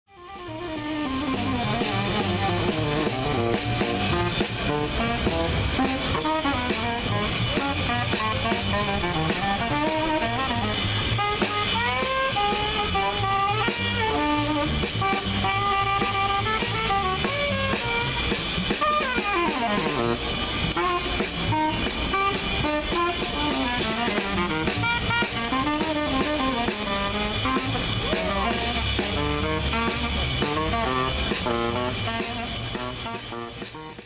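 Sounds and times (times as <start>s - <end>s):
jazz music with saxophone: 0.1s - 34.0s.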